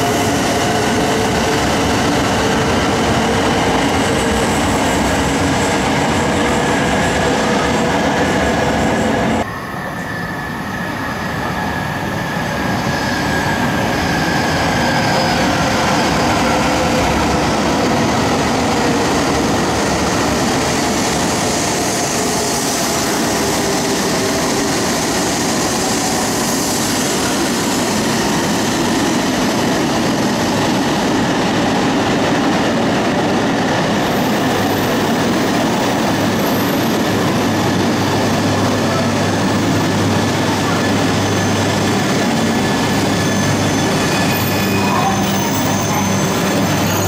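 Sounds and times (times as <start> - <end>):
train running noise: 0.0 - 47.0.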